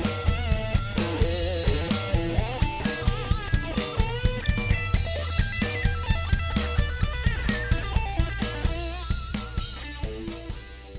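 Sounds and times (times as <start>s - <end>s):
rock music with drums and guitar: 0.0s - 10.9s.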